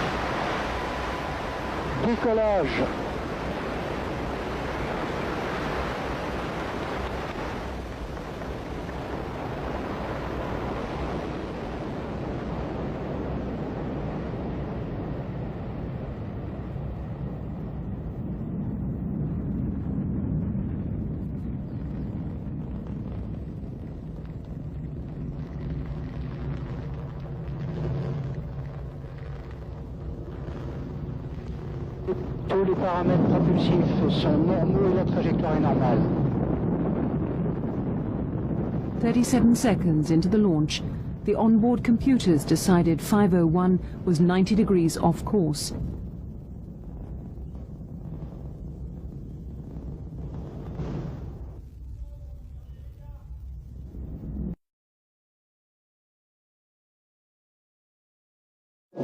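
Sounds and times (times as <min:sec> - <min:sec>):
rocket engine rumble: 0:00.0 - 0:54.6.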